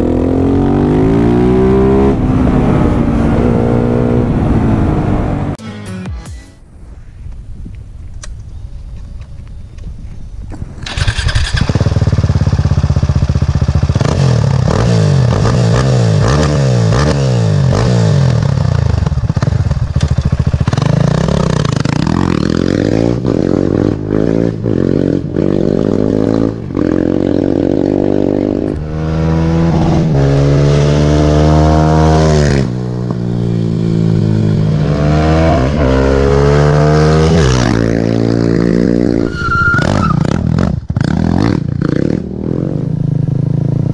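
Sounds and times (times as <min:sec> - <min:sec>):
motorcycle engine revving through gears: 0:00.0 - 0:05.6, 0:10.8 - 0:43.9.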